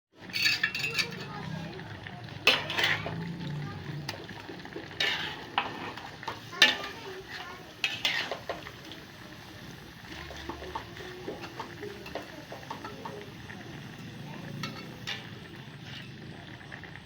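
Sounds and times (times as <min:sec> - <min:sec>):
utensil scraping a pan: 0:00.2 - 0:01.5, 0:02.4 - 0:08.9, 0:09.9 - 0:16.3
meat sizzling in a pan: 0:00.2 - 0:17.0.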